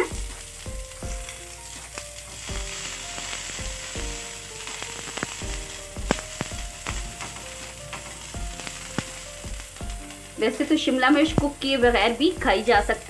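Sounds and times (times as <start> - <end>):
peppers sizzling in a frying pan: 0.0 - 13.0.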